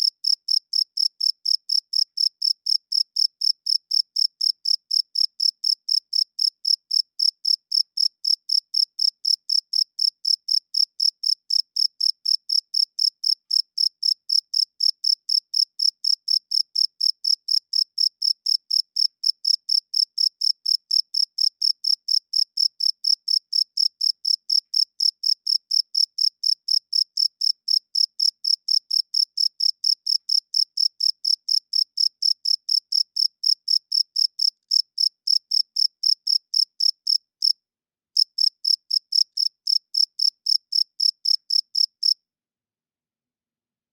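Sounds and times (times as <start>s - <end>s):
cricket chirping: 0.0s - 37.5s, 38.2s - 42.2s.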